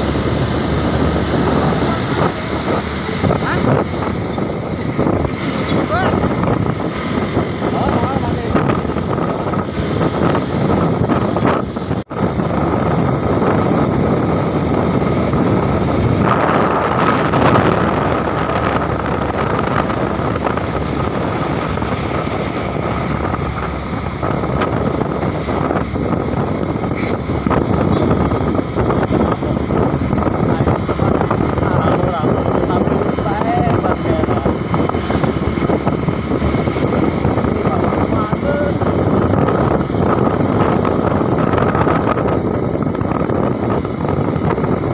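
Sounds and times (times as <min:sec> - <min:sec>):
road noise: 0:00.0 - 0:44.9
truck engine: 0:00.0 - 0:44.9
wind noise: 0:00.0 - 0:44.9.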